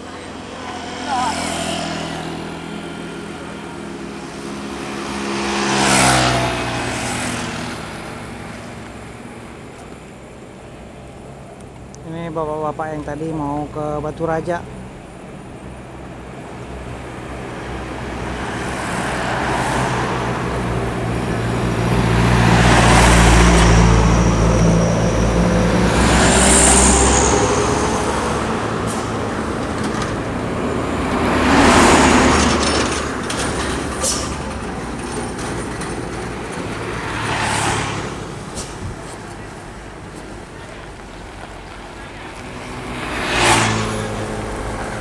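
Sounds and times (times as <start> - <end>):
diesel coach engine rumble: 0.0 - 45.0.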